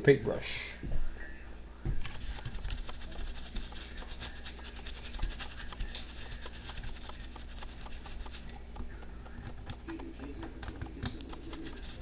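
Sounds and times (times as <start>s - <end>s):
low steady hum: 0.0s - 12.0s
paintbrush scrubbing circuit board: 2.1s - 12.0s.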